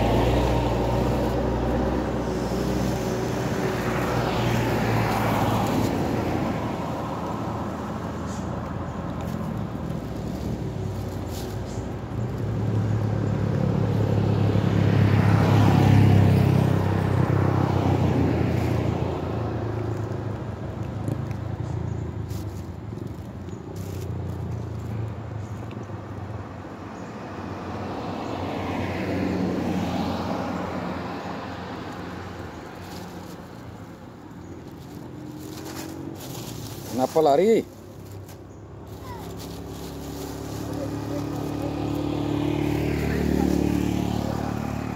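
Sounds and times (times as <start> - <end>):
low engine hum: 0.0 - 44.9
vehicles passing: 0.0 - 44.9.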